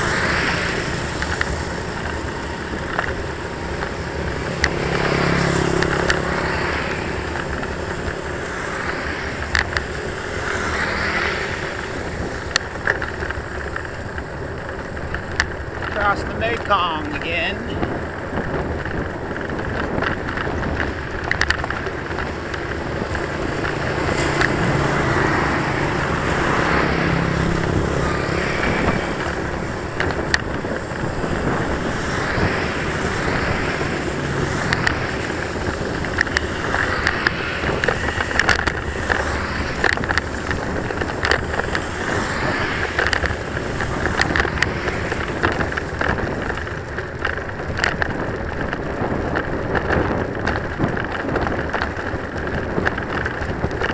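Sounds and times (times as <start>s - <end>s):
bicycle clicks and rattles: 0.0s - 53.9s
bicycle tyre noise: 0.0s - 53.9s
motor vehicle passing: 0.0s - 53.9s
wind on microphone: 0.0s - 53.9s.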